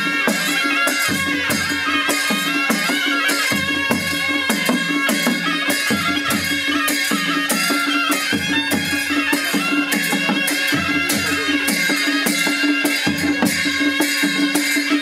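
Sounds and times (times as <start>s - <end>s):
reedy pipes melody: 0.0s - 14.2s
drum strokes: 0.0s - 15.0s.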